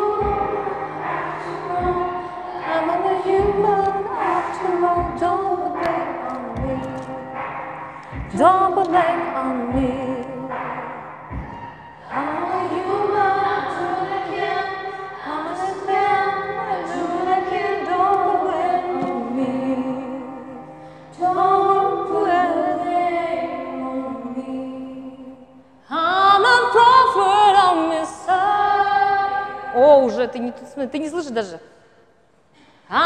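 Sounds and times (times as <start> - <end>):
girl singing slow song: 0.0 - 30.6.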